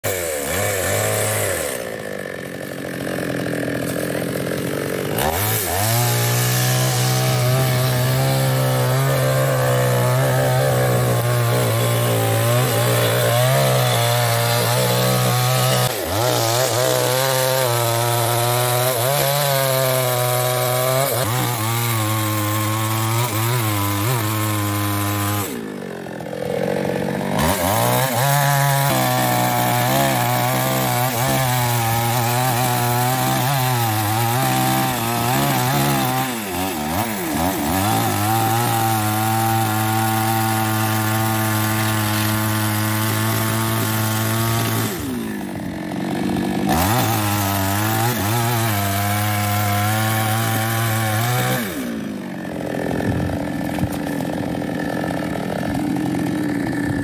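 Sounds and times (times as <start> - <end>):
chainsaw cutting through tree trunk: 0.0 - 57.0.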